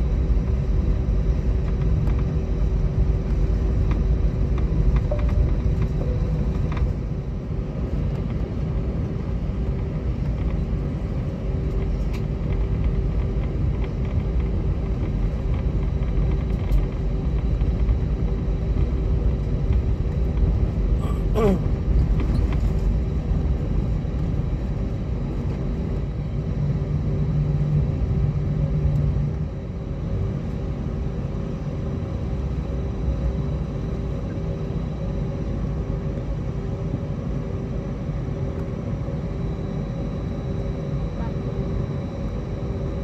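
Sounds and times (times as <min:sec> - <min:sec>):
aircraft engines rumbling at idle: 0:00.0 - 0:43.0
constant hum: 0:00.0 - 0:43.0.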